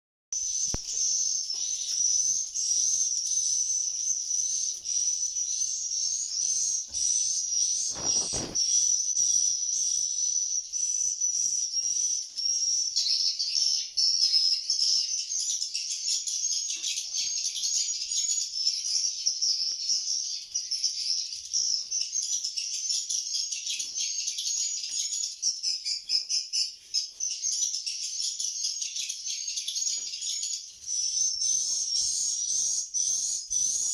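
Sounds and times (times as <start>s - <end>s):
birds twittering: 0.4s - 33.9s.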